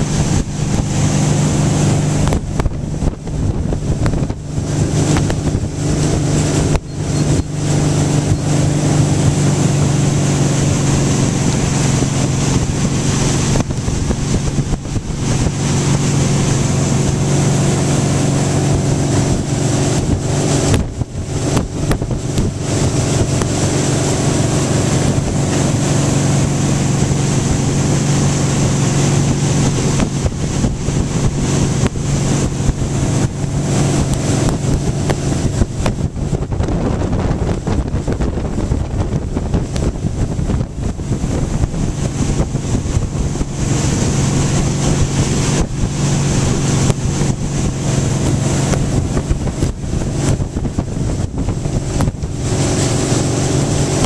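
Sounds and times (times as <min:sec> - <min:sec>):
motorboat engine drone: 0:00.0 - 0:54.0
wake rushing: 0:00.0 - 0:54.0
wind on microphone: 0:00.0 - 0:54.0.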